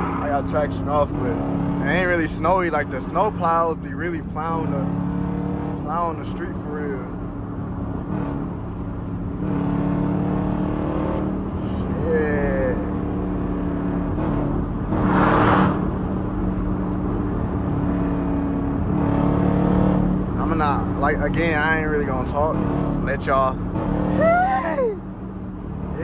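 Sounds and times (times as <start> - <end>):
car engine drone in cabin: 0.0 - 26.0.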